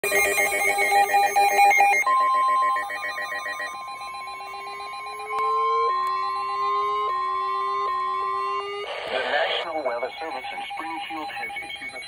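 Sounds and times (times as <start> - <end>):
electronic alarm warble: 0.0 - 12.0
steady high warning tone: 0.0 - 12.0.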